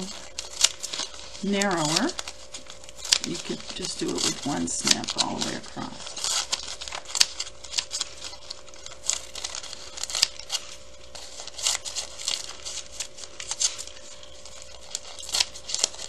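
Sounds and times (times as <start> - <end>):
paper crinkling: 0.0 - 16.0
scissors snipping paper: 0.0 - 16.0.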